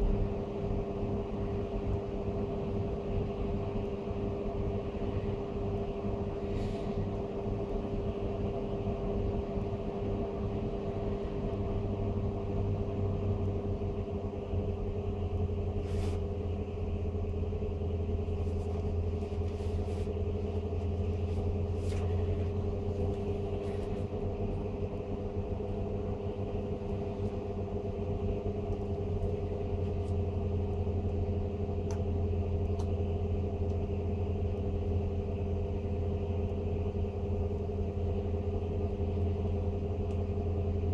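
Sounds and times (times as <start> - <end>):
fan motor humming: 0.0 - 40.9.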